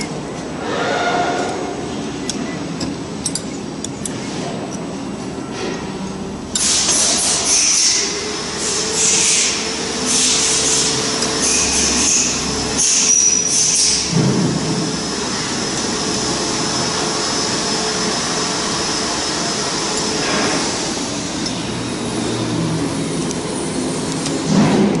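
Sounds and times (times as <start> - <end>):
machinery hum: 0.0 - 25.0.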